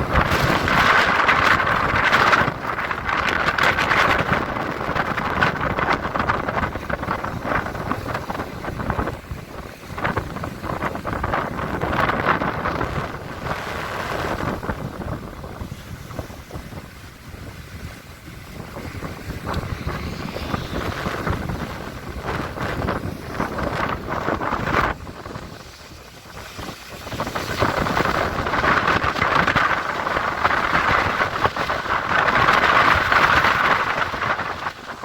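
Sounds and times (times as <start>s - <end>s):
sea waves washing: 0.0s - 35.0s
wind buffeting microphone: 0.0s - 35.0s.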